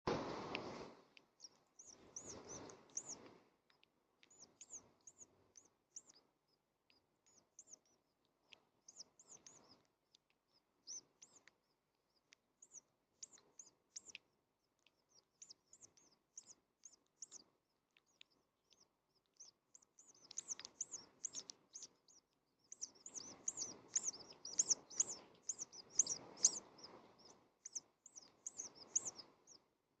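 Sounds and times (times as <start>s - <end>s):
house finches chirping: 1.4s - 29.6s.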